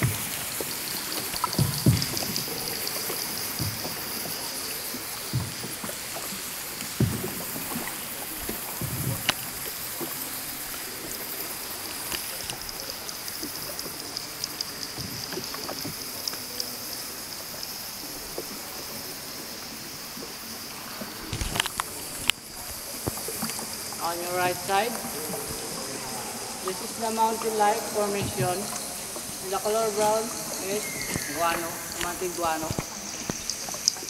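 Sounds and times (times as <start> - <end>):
paddle knocks and splashes: 0.0 - 16.9, 20.2 - 34.0
water rushing and trickling: 0.0 - 34.0.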